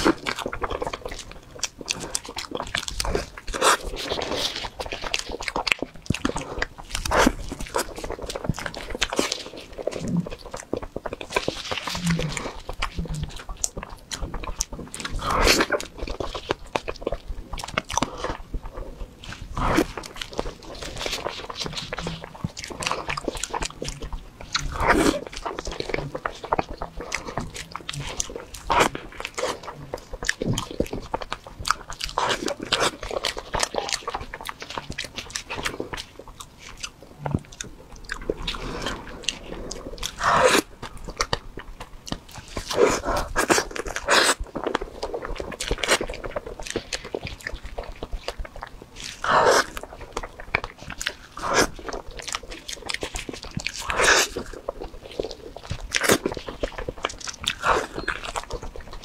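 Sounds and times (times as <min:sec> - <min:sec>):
biting soft cake: 0:00.0 - 0:59.0
wet chewing mouth sounds: 0:00.0 - 0:59.0.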